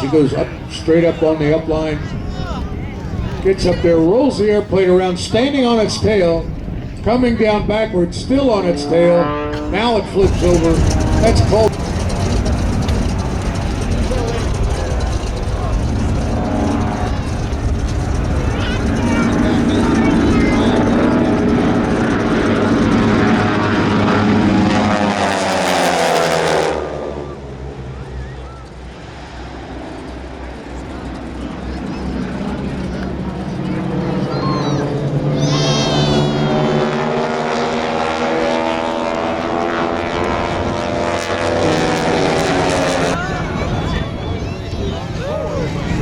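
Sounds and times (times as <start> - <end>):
propeller airplane engine running: 0.0 - 46.0.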